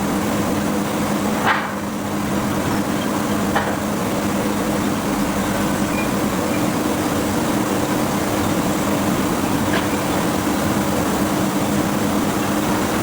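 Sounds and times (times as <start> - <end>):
machinery hum: 0.0 - 13.0.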